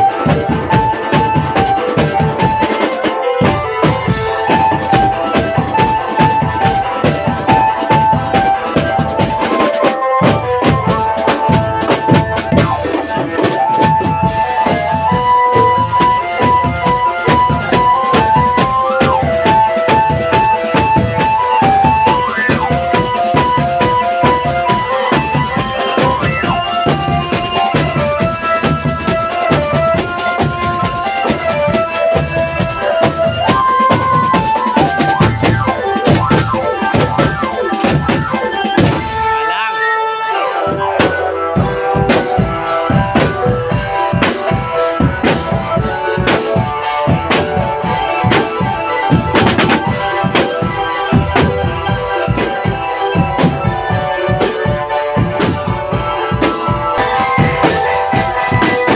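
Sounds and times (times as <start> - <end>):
marching drum band playing: 0.0 - 58.9.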